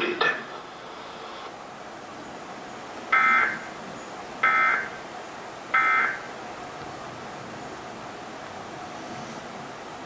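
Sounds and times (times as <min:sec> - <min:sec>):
broadcast static hiss: 0:00.0 - 0:10.0.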